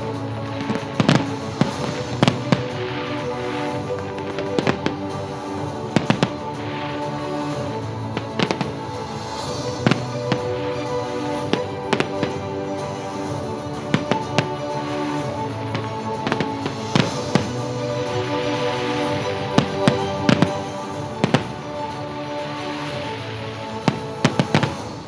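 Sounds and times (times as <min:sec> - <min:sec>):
music: 0:00.0 - 0:25.0.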